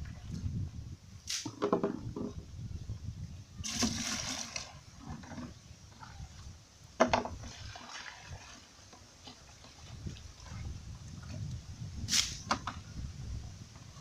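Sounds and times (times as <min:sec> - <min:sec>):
water splashing and sloshing: 0:00.0 - 0:02.4, 0:03.6 - 0:14.0.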